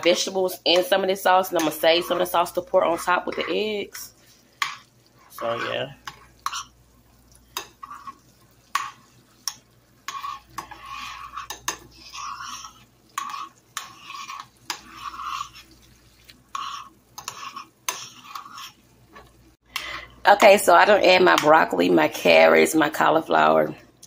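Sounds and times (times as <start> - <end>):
utensil scraping a pot: 0.0 - 19.9.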